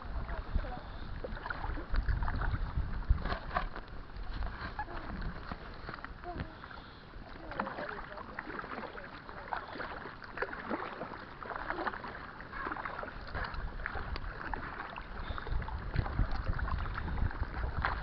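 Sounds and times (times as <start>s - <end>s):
low rumble on microphone: 0.0s - 18.0s
paddle splashing water: 0.0s - 18.0s.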